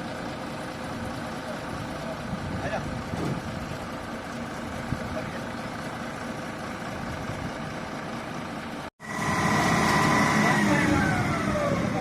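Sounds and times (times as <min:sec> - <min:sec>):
heavy vehicle engine idling: 0:00.0 - 0:12.0
high engine whine: 0:00.0 - 0:12.0.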